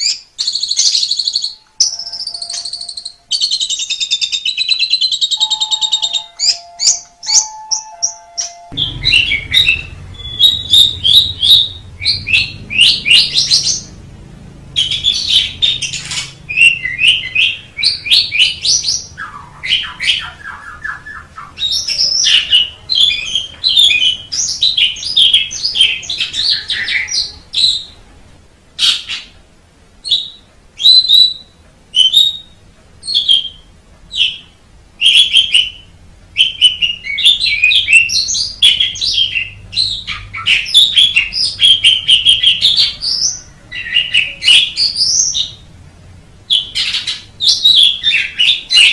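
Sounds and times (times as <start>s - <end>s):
starling singing: 0.0s - 28.0s, 30.0s - 45.7s, 46.5s - 48.9s.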